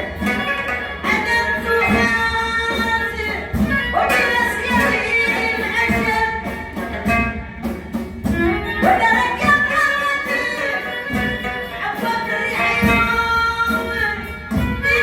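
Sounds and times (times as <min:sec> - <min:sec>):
hand drum rhythm: 0:00.0 - 0:15.0
violin melody: 0:00.0 - 0:15.0.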